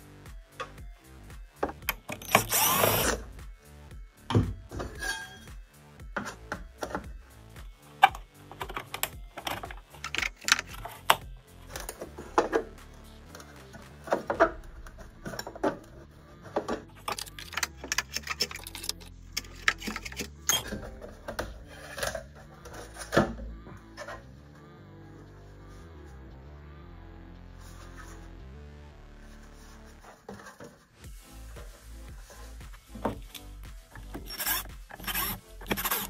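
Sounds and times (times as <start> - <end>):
background music: 0.0 - 36.0.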